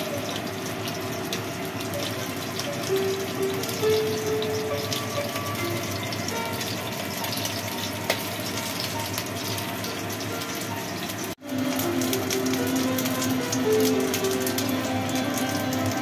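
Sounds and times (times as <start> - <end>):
hot oil sizzling in a wok: 0.0 - 16.0.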